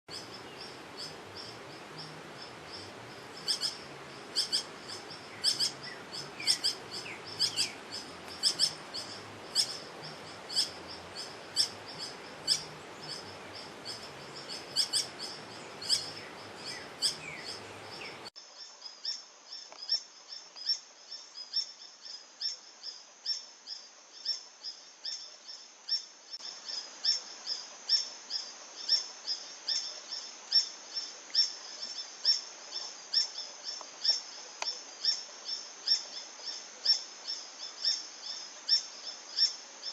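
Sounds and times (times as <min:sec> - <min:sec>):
background hiss: 0:00.1 - 0:39.9.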